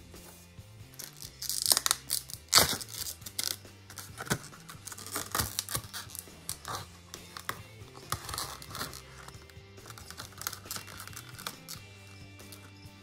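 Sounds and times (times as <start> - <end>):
quiet background music: 0.0 - 13.0
plastic packaging crinkling: 1.0 - 12.7.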